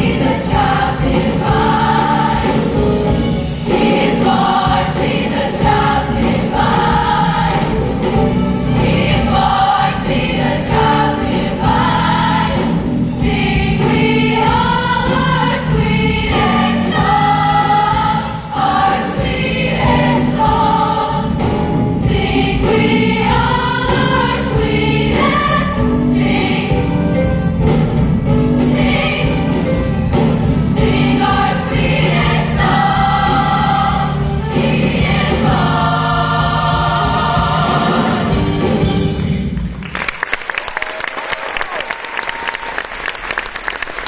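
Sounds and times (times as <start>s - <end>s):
choir singing: 0.0s - 27.6s, 28.2s - 39.6s
low instrumental accompaniment: 0.0s - 39.8s.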